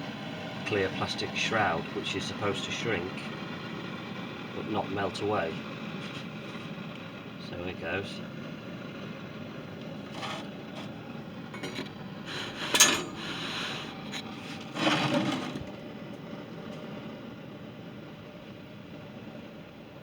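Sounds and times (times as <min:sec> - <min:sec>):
blow lamp flame hissing: 0:00.0 - 0:20.0.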